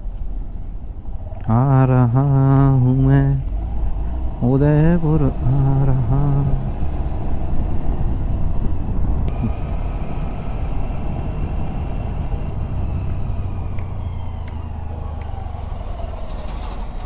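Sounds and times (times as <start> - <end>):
wind and road noise rumble: 0.0 - 17.0.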